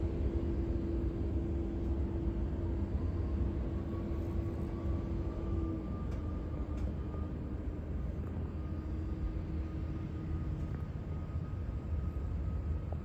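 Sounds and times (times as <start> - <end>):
faint rising engine whine: 0.0 - 13.0
jet engines rumbling: 0.0 - 13.0.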